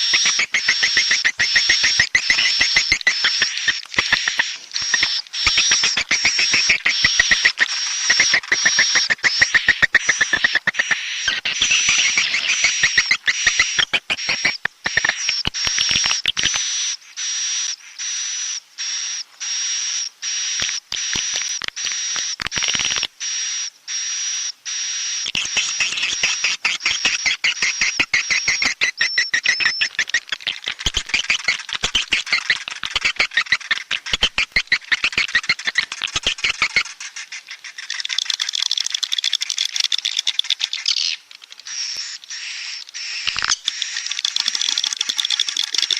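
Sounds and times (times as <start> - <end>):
swiftlet clicks and twittering: 0.0 - 17.0, 20.2 - 23.2, 25.2 - 45.9.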